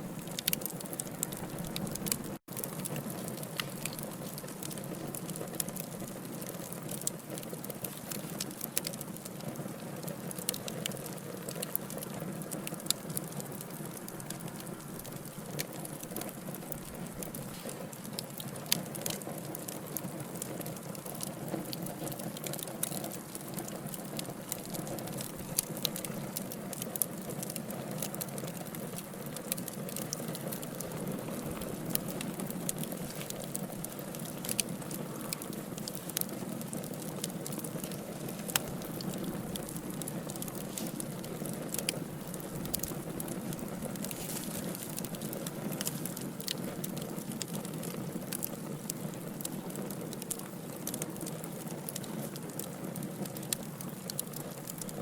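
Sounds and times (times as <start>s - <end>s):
logs burning with crackles and pops: 0.0s - 55.0s.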